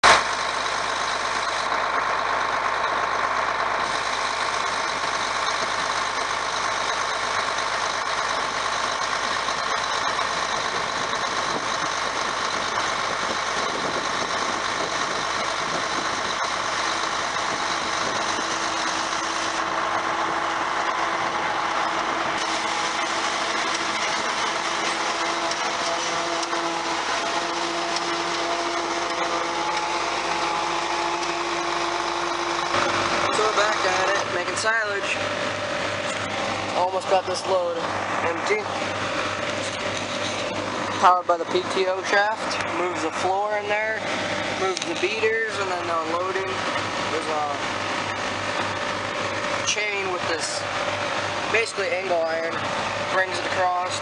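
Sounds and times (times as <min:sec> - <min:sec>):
machinery running: 0:00.0 - 0:54.0
tractor diesel engine running: 0:00.0 - 0:54.0.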